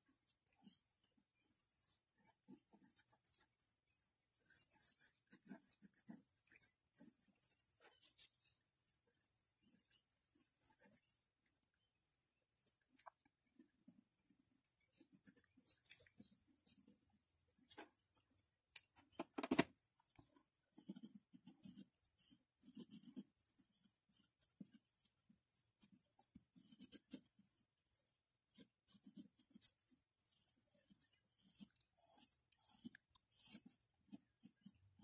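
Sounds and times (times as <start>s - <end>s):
pencil scratching on paper: 0.0s - 18.3s, 20.4s - 35.0s.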